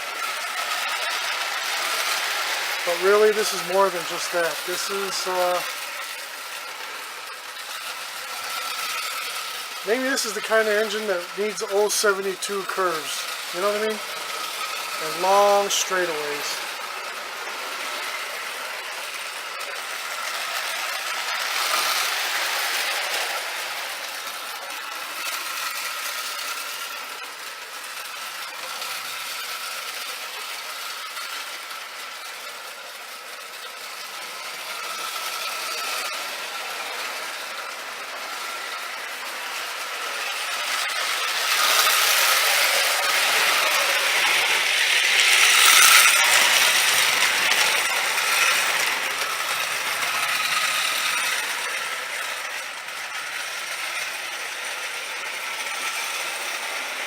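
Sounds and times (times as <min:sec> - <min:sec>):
toy train motor whirring: 0:00.0 - 0:57.0
wheels rattling on rails: 0:00.0 - 0:57.0.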